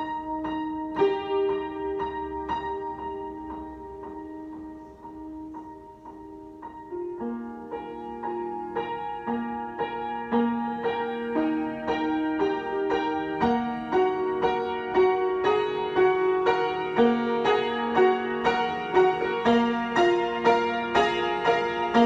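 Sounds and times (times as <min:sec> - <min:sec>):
solo piano: 0:00.0 - 0:22.0.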